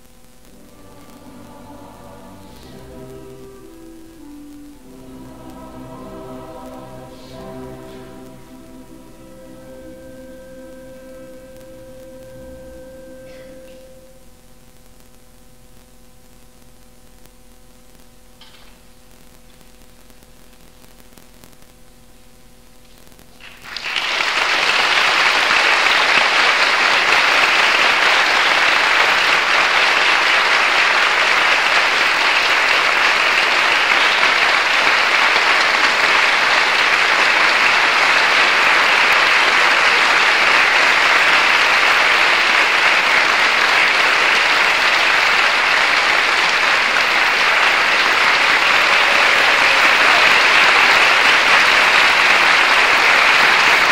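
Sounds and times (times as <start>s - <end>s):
faint hum: 0.0s - 53.9s
audience applauding: 0.5s - 14.1s, 23.4s - 53.9s.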